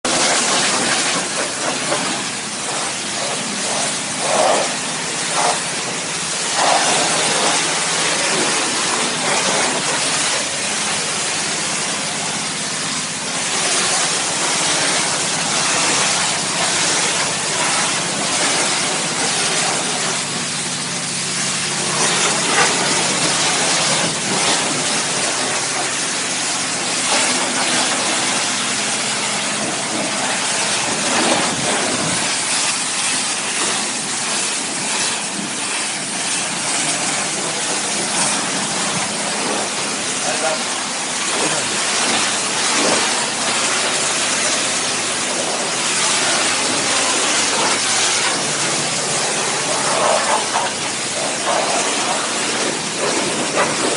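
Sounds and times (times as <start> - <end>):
pressure washer spraying: 0.1 - 53.9.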